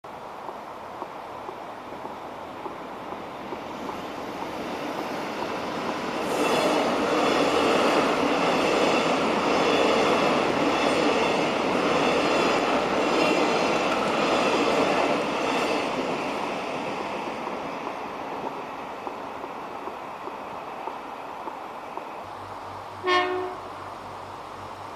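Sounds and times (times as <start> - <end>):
train passing: 0.2 - 24.9.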